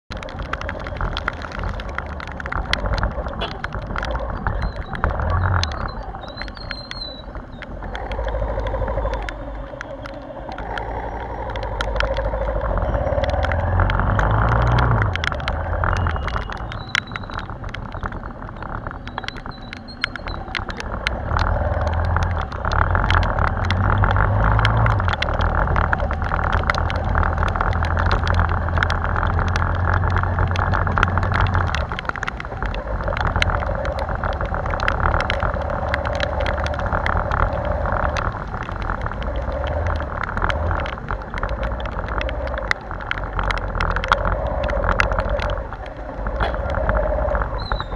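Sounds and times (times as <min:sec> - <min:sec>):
wet road noise: 0:00.0 - 0:47.9
muffled motorbike engine: 0:00.1 - 0:47.9
raindrops ticking on case: 0:00.1 - 0:47.9.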